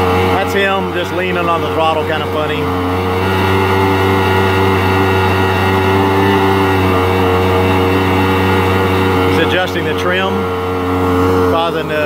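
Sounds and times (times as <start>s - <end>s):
jet pump churning water: 0.0s - 12.0s
watercraft engine running: 0.0s - 12.0s.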